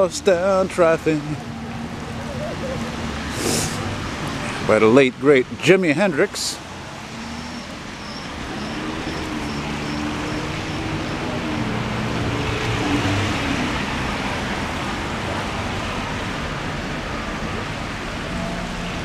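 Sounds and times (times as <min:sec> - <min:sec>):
tyres hissing on wet pavement: 0:00.0 - 0:17.0
car engines humming: 0:00.0 - 0:19.0.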